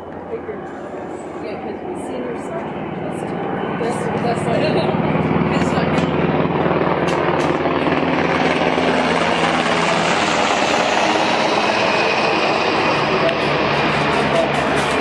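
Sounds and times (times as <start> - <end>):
helicopter flying: 0.0 - 15.0.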